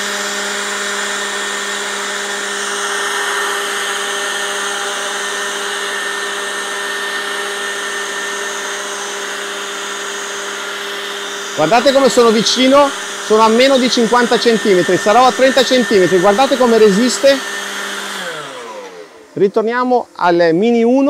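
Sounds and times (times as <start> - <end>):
leaf blower running: 0.0 - 21.0.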